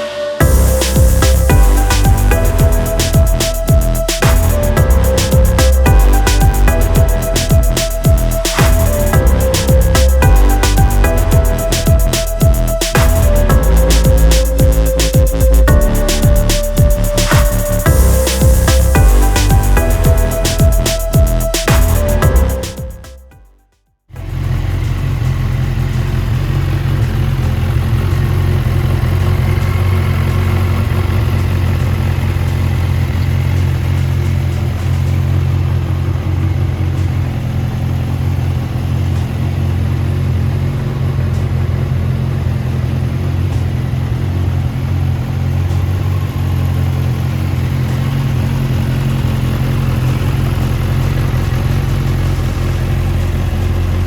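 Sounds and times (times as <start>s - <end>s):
motorcycle engine idling: 0.4s - 23.1s, 24.1s - 54.0s.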